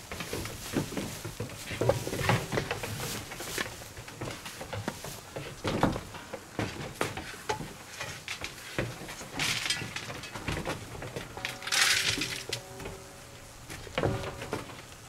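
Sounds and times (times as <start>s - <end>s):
footsteps on wooden boards: 0.0s - 11.5s, 12.1s - 15.0s
goat hooves on wooden boards: 0.0s - 15.0s.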